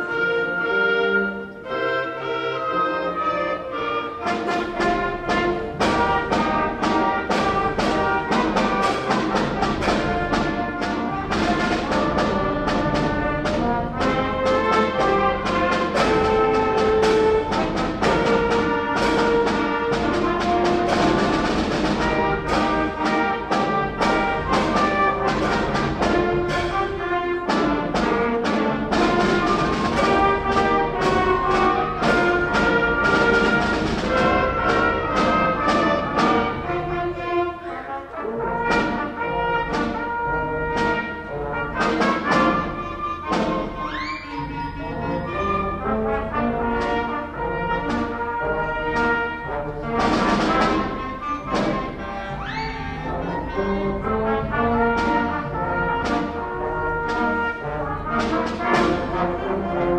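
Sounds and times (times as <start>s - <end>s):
concert band playing: 0.0s - 59.9s.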